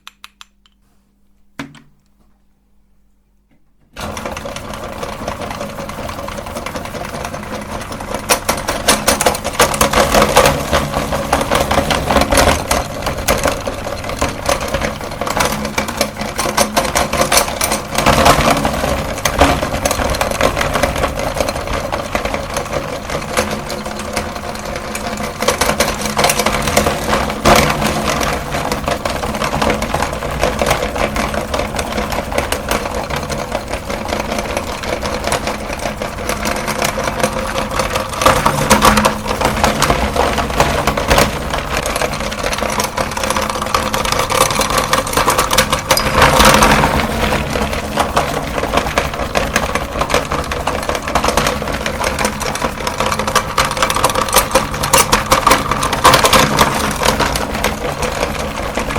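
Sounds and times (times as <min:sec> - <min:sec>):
meat grinder motor hum: 0:04.0 - 0:58.9.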